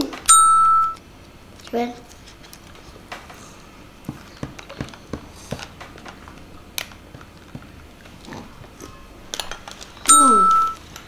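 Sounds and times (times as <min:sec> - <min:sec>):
soft eating sounds: 0:01.2 - 0:11.0.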